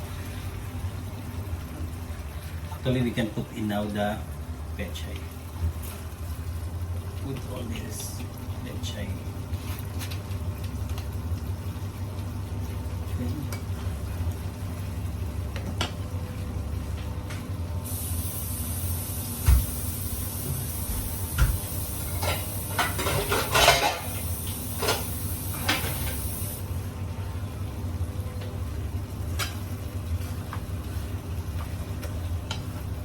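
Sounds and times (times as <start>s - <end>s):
steady low hum: 0.0s - 33.0s
food sizzling: 4.6s - 33.0s.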